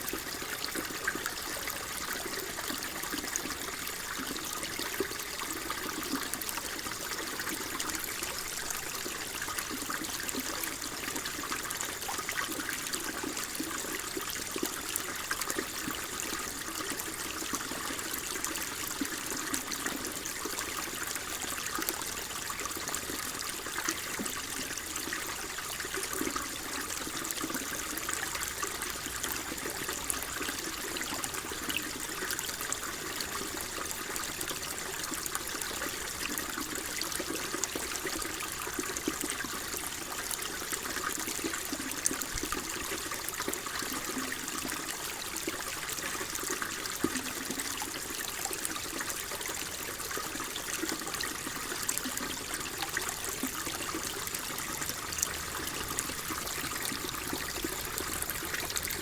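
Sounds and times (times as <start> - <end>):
water flowing and trickling: 0.0 - 59.0
water splashing and bubbling: 0.0 - 59.0.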